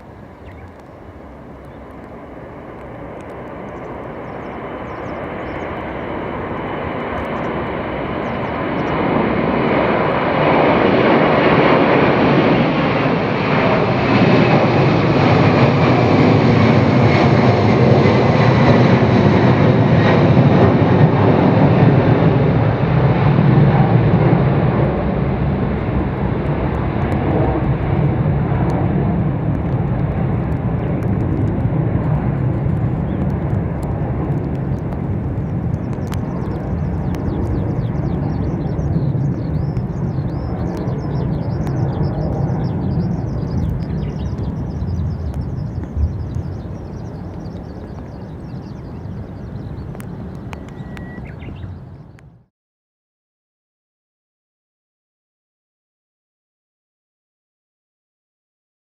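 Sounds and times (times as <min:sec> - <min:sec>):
jet engine whine falling in pitch: 0:00.0 - 0:52.4
jet airliner passing: 0:00.0 - 0:52.5.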